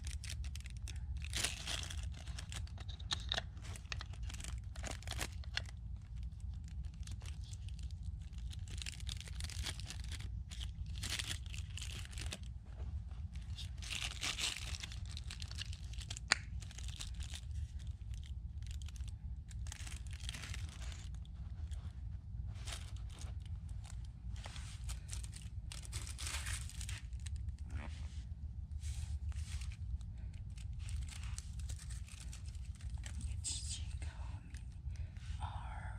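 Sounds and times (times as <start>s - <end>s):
packaging crinkling and rustling: 0.0s - 28.1s, 28.8s - 33.4s
low steady hum: 0.0s - 35.9s.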